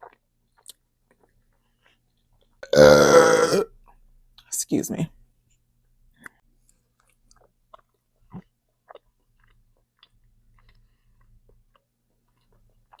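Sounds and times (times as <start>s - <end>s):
person chewing food: 0.0s - 4.5s, 6.2s - 13.0s.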